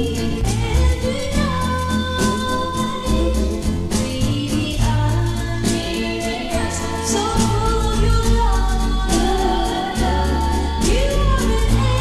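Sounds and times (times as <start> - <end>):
pop band playing: 0.0 - 12.0
woman singing: 0.0 - 12.0.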